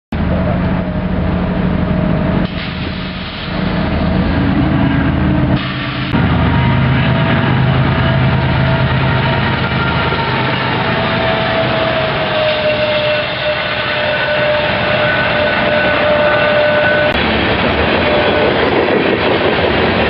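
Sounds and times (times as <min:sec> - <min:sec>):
diesel locomotives passing: 0:00.2 - 0:20.0.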